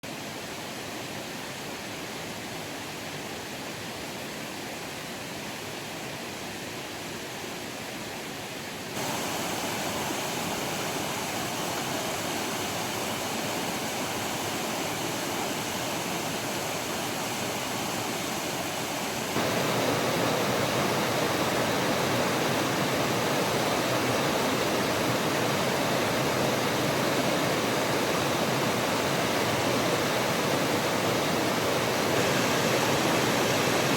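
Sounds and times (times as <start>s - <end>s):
mountain stream rushing over rocks: 0.0s - 33.9s.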